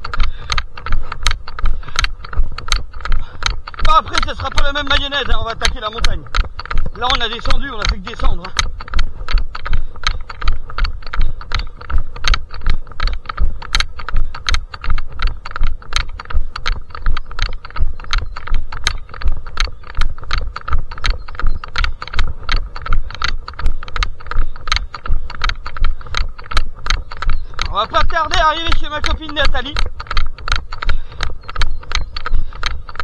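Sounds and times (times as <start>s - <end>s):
gear rattling: 0.0s - 33.0s
running footsteps: 0.0s - 33.0s.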